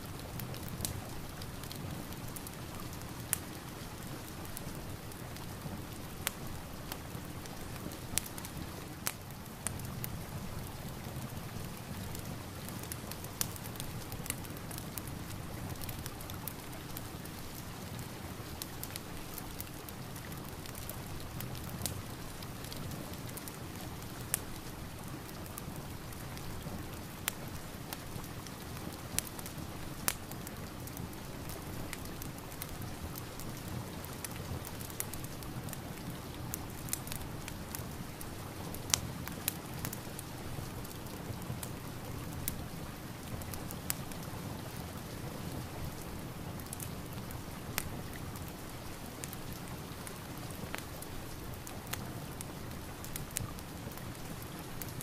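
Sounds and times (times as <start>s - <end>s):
fire crackling and popping: 0.0s - 55.0s
steady rain: 0.0s - 55.0s.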